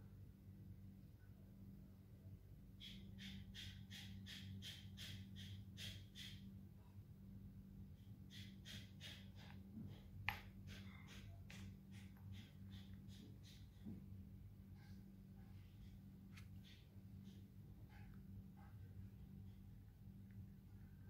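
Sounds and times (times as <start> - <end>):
faint steady low hum: 0.0 - 21.0.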